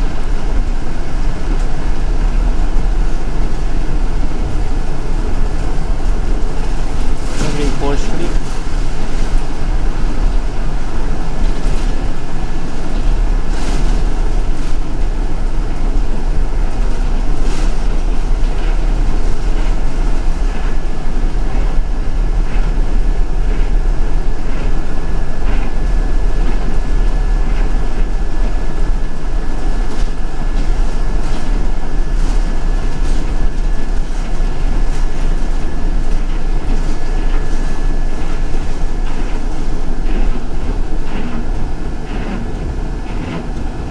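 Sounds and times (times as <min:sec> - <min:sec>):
bus engine and road rumble: 0:00.0 - 0:43.9
rattles and clicks: 0:00.0 - 0:43.9.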